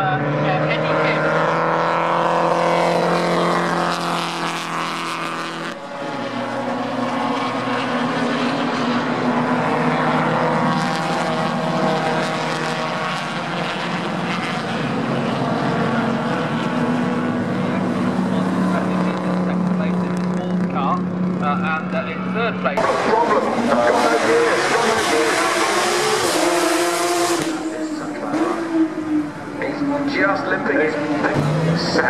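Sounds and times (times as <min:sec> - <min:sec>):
racing car engines: 0:00.0 - 0:32.0.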